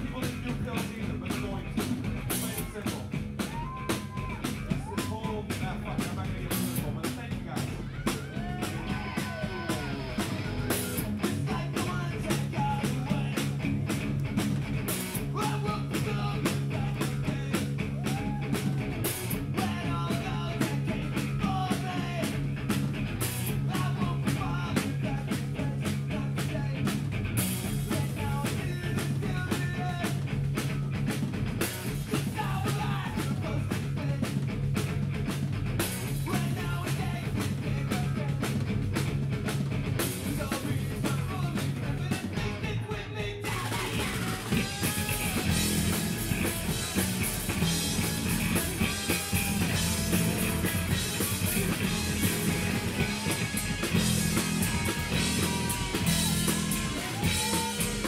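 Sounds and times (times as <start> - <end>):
man singing: 0.0 - 13.7, 15.2 - 22.5, 23.4 - 27.0, 27.6 - 30.3, 31.6 - 34.5, 36.0 - 38.7, 40.0 - 46.8, 48.0 - 58.0
bass guitar: 0.0 - 58.0
drum kit: 0.0 - 58.0
electric guitars: 0.0 - 58.0.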